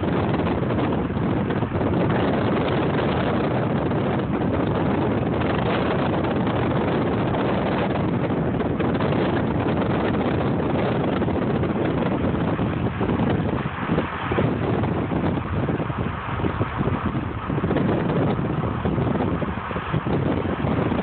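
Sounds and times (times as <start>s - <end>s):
car road noise: 0.0s - 21.0s
wind on microphone: 0.0s - 21.0s.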